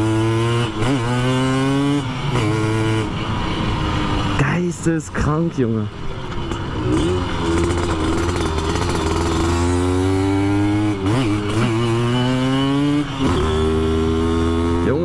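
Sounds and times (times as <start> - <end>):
moped engine running hard: 0.0 - 15.0.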